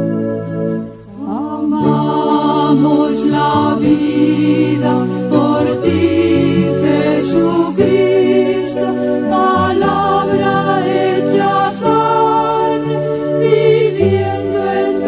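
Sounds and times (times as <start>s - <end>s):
low held accompaniment notes: 0.0s - 15.0s
choir singing worship song: 1.1s - 15.0s.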